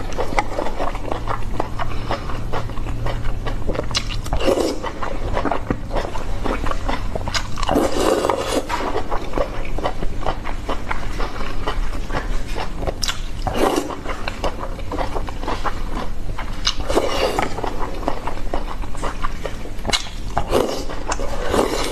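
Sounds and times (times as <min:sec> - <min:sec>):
wet chewing and mouth smacking: 0:00.0 - 0:21.9.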